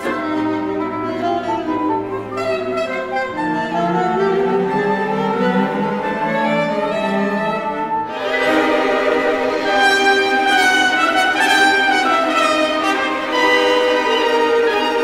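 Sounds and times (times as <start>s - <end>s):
sustained bowed strings: 0.0s - 15.0s
symphony orchestra playing: 0.0s - 15.0s.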